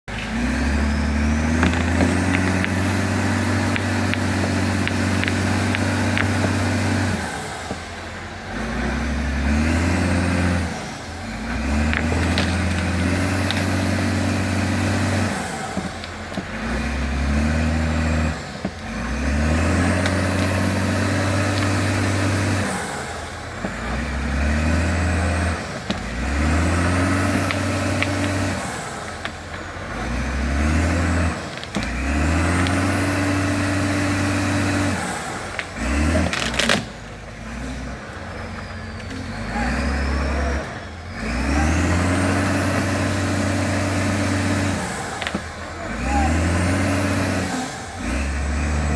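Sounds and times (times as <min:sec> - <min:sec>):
tractor diesel engine revving: 0:00.0 - 0:48.9.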